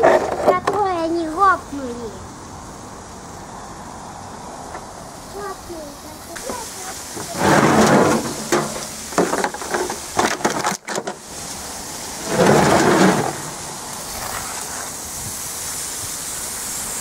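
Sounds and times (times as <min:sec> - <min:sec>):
steady hiss: 0:00.0 - 0:17.0
rushing burst on microphone: 0:01.2 - 0:10.2, 0:11.2 - 0:17.0.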